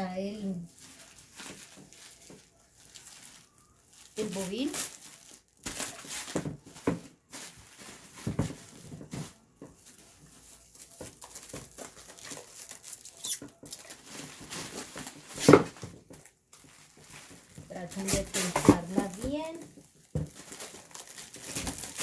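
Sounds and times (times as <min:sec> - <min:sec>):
plastic wrap crinkling: 0:00.0 - 0:22.0.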